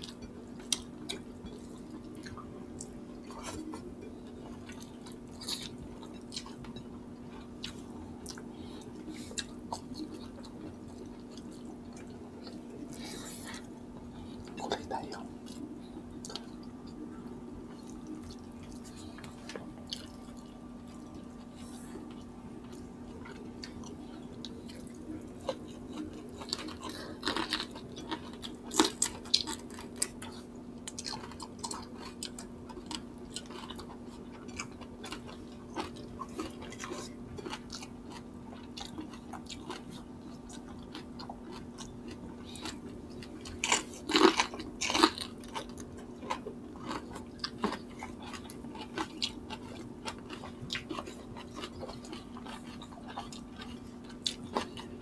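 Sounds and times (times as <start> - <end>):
people chewing and biting: 0.0 - 55.0.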